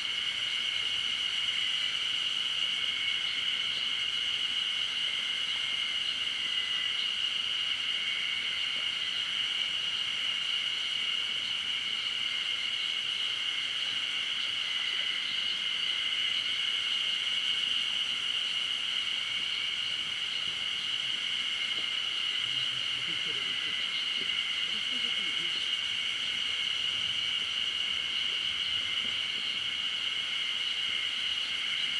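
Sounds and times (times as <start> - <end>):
high-pitched insect chorus: 0.0 - 31.9.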